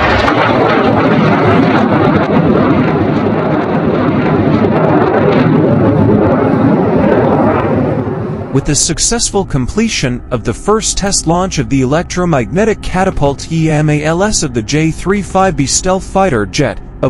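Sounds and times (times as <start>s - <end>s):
jet engine noise overhead: 0.0s - 17.0s.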